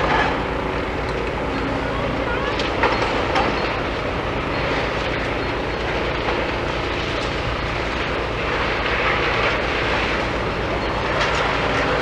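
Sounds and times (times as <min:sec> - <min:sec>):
heavy machinery rumbling: 0:00.0 - 0:12.0.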